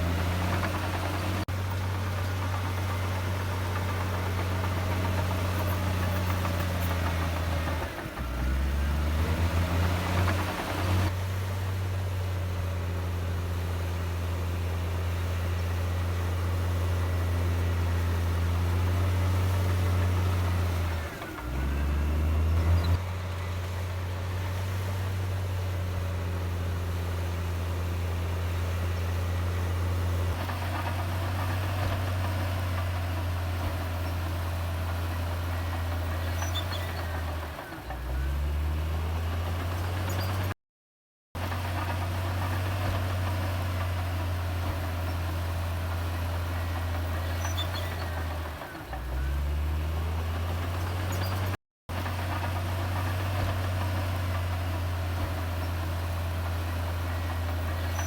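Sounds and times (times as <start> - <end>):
bulldozer diesel engine under load: 0.0 - 40.6, 41.4 - 58.0.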